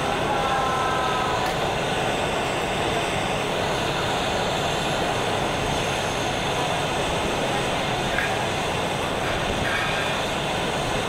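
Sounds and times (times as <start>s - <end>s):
city background rumble: 0.0s - 11.0s.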